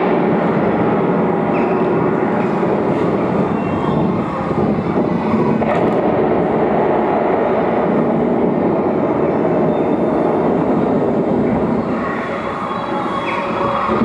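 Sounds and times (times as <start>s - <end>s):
dense ambient noise wash: 0.0s - 14.0s.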